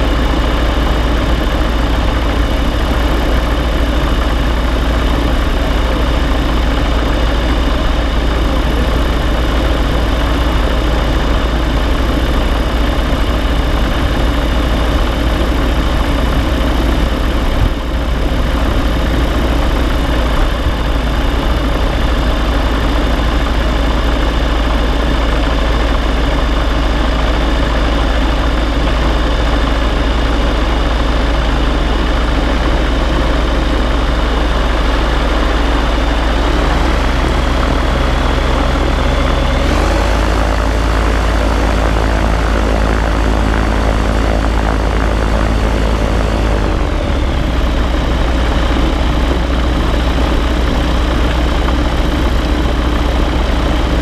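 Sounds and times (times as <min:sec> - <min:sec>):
gyrocopter engine and propeller: 0:00.0 - 0:54.0.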